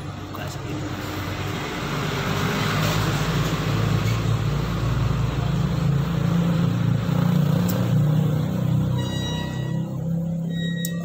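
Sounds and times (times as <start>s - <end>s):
road noise hiss: 0.0s - 9.0s
vehicle engine humming: 0.0s - 11.0s.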